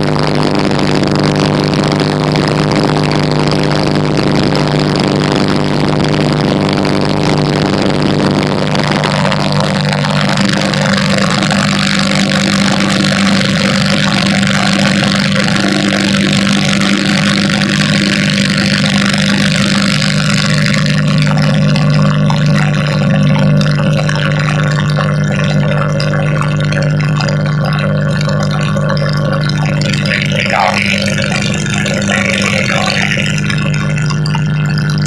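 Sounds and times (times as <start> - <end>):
aircraft engine and propeller droning: 0.0 - 35.0.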